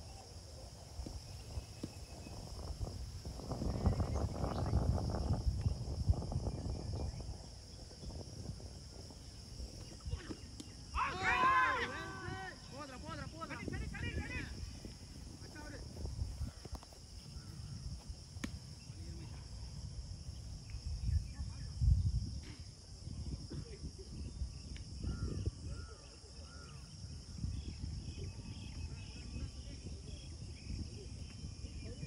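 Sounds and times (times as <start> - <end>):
insects chorus: 0.0 - 32.0
wind rumble on microphone: 0.0 - 32.0.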